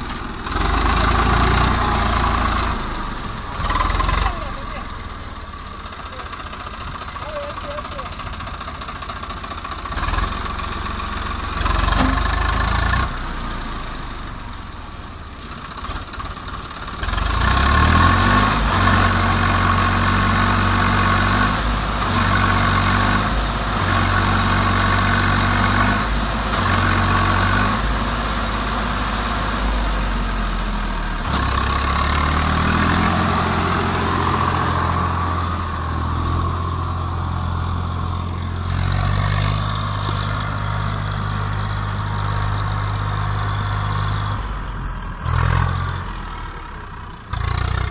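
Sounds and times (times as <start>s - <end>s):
tractor diesel engine revving: 0.0s - 47.9s.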